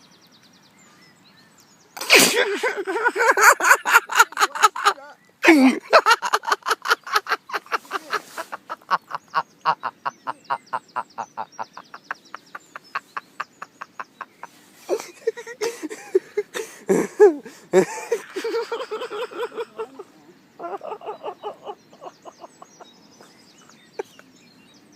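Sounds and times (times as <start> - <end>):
clucking calls: 2.0 - 24.4.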